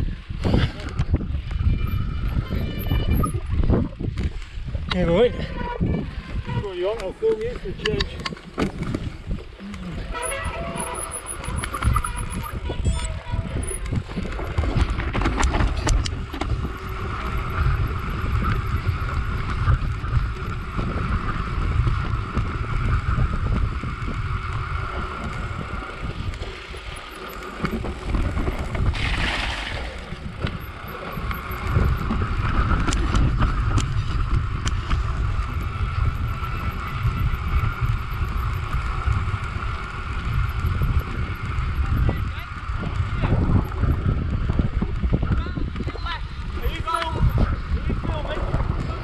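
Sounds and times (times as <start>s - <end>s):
bike tyres and frame rattling: 0.0s - 49.0s
wind buffeting microphone: 0.0s - 49.0s.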